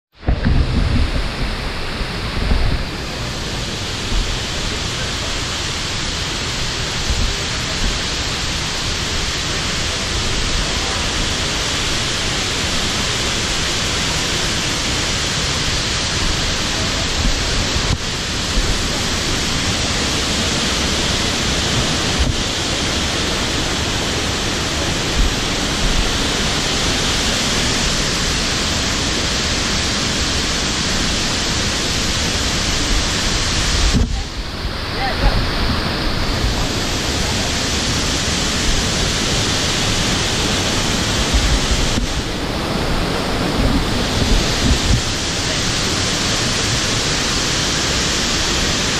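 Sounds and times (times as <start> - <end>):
steady rushing noise: 0.1 - 48.9.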